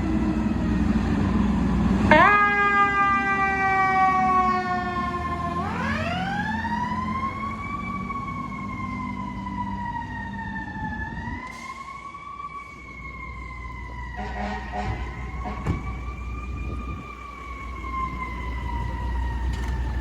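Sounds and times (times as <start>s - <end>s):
fire truck siren wailing: 0.0s - 20.0s
truck engine rumbling: 0.0s - 20.0s.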